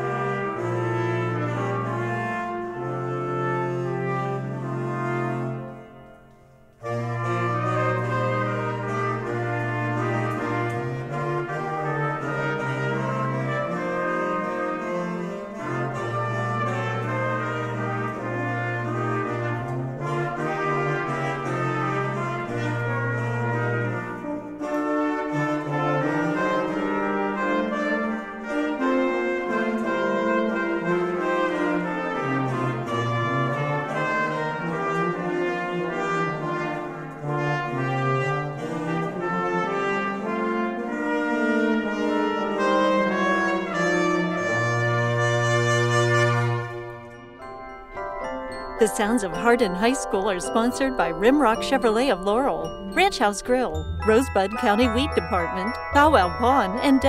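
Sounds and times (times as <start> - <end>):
brass ensemble chords: 0.0 - 6.0, 6.8 - 47.5, 48.8 - 57.0.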